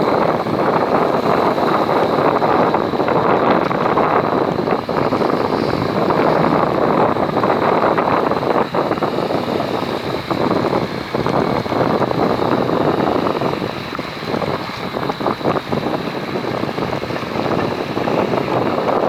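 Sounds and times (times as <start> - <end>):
boat and water noise: 0.0 - 19.0
thin high whine: 0.0 - 19.0
wind on microphone: 0.0 - 19.0.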